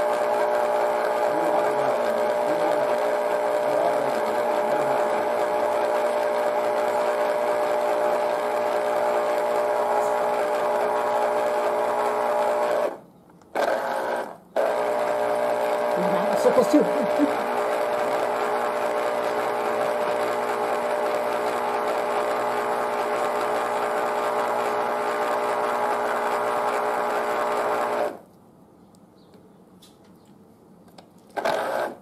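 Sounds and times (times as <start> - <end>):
juicer motor humming: 0.0 - 28.2, 31.4 - 32.0.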